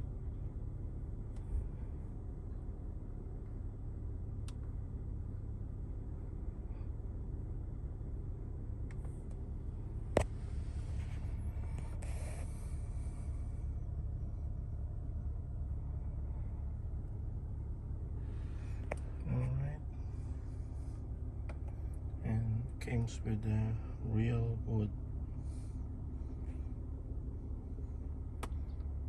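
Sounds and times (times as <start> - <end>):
car cabin hum idling: 0.0 - 29.0.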